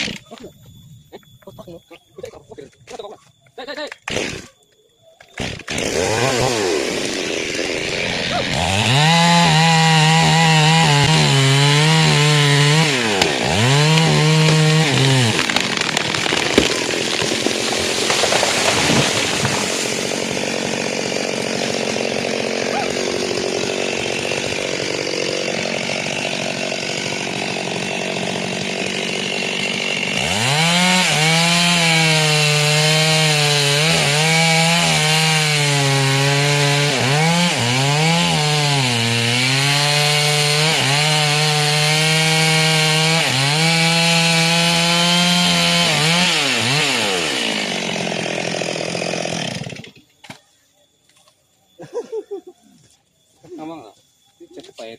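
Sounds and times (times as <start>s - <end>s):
chainsaw cutting wood: 0.0s - 0.4s, 3.9s - 4.6s, 5.2s - 50.4s.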